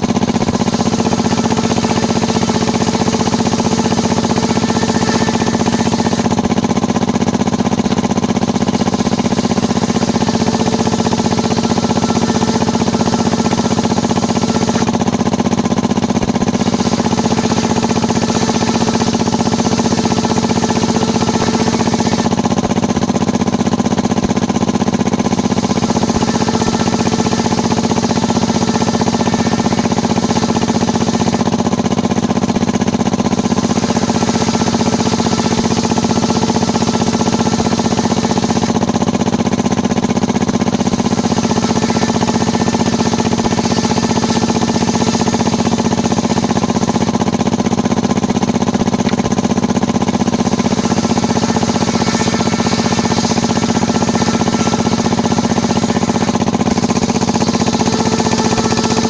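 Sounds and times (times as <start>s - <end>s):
circular saw bench droning: 0.0s - 59.0s
saw ripping timber: 0.0s - 59.0s.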